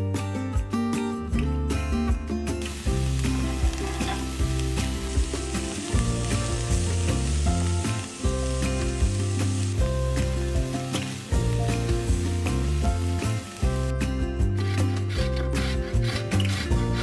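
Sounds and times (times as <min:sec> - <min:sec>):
background music: 0:00.0 - 0:17.0
onion sizzling in frying pan: 0:02.6 - 0:17.0.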